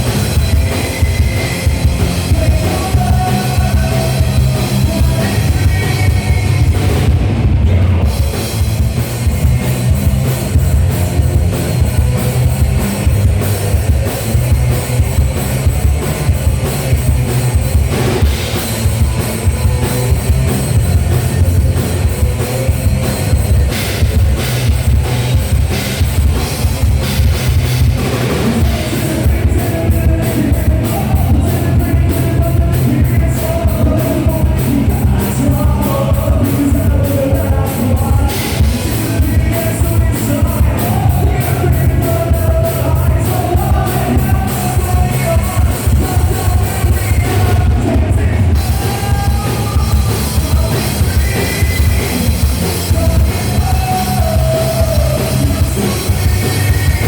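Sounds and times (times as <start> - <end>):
bass guitar: 0.0 - 57.0
distorted electric guitars: 0.0 - 57.0
drum kit: 0.0 - 57.0.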